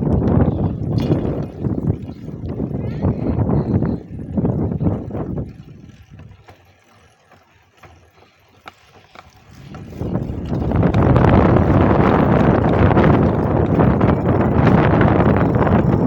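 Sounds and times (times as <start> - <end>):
wind buffeting microphone: 0.0 - 7.9, 8.6 - 16.0.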